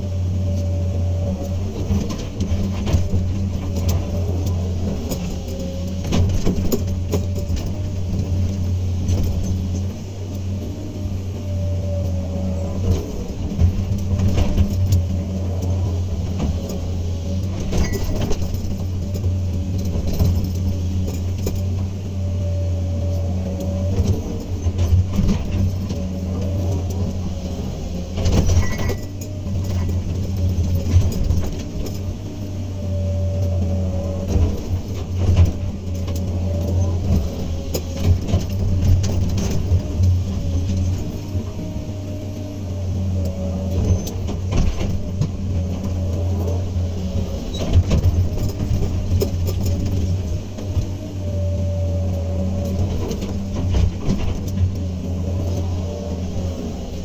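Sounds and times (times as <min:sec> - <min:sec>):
excavator engine running: 0:00.0 - 0:57.0
hydraulic pump whine: 0:00.0 - 0:57.0.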